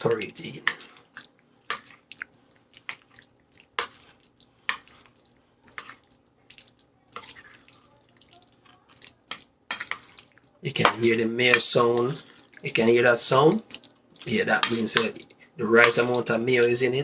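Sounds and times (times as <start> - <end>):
potato salad being stirred: 0.0 - 17.0.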